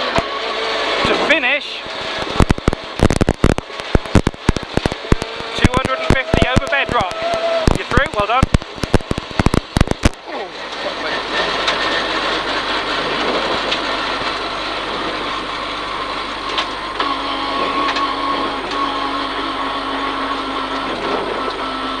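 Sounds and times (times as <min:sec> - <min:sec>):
rally car engine from inside: 0:00.0 - 0:22.0.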